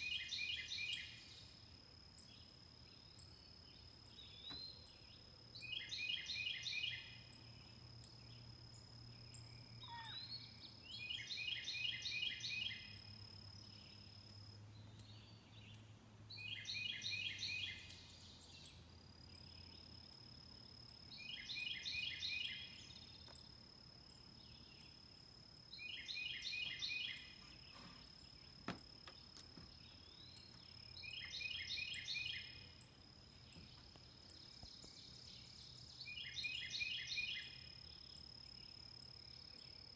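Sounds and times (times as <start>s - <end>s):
insects high-pitched hum: 0.0s - 39.9s.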